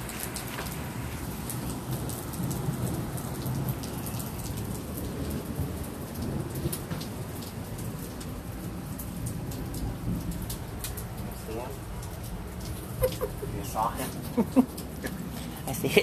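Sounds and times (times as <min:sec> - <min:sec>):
raindrops ticking on surfaces: 0:00.0 - 0:16.0
steady rain falling: 0:00.0 - 0:16.0.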